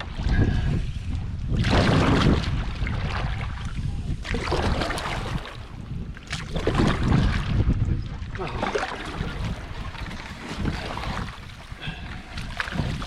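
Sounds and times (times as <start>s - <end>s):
canoe paddle splashing water: 0.0s - 13.0s
wind buffeting microphone: 0.0s - 13.0s.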